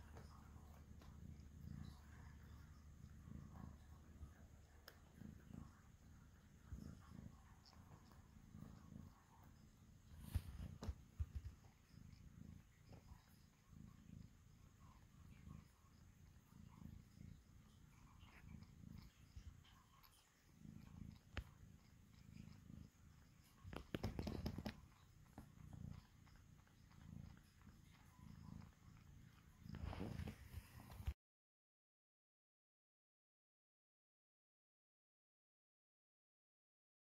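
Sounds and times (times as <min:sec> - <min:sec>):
cat purring: 0:00.0 - 0:31.2.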